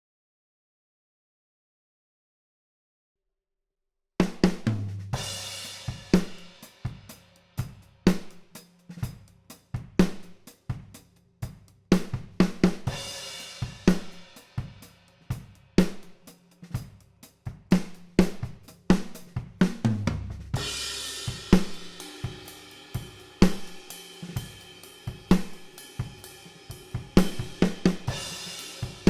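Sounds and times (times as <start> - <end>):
drum kit groove: 4.2 - 29.0.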